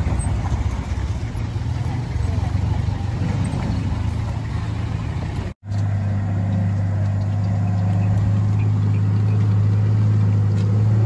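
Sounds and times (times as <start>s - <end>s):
vehicle engines droning: 0.0s - 11.0s.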